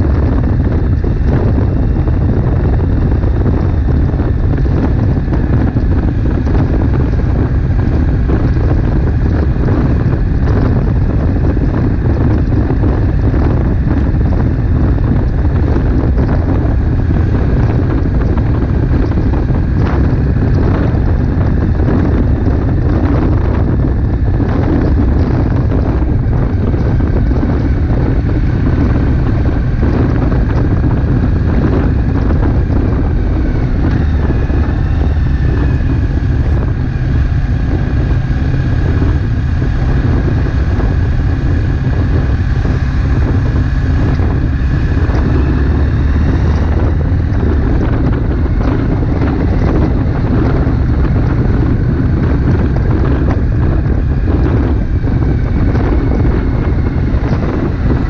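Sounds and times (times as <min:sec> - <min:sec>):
motorcycle engine running: 0:00.0 - 0:58.0
wind buffeting on microphone: 0:00.0 - 0:58.0.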